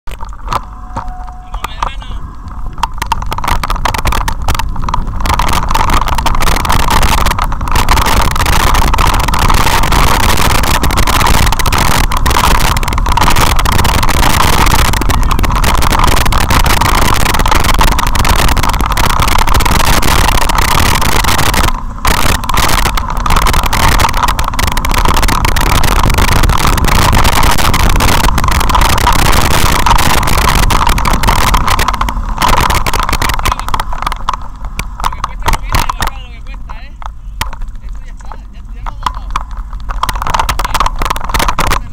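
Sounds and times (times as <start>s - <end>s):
bike rattling on gravel: 0.0s - 41.9s
mid-pitched hum: 0.1s - 41.9s
wind rushing on microphone: 0.1s - 41.9s.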